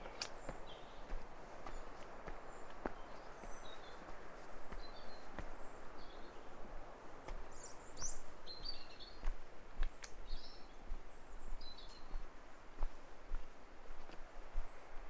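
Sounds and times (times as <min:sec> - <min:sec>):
light footsteps on trail: 0:00.0 - 0:15.0
small birds chirping: 0:00.0 - 0:15.0.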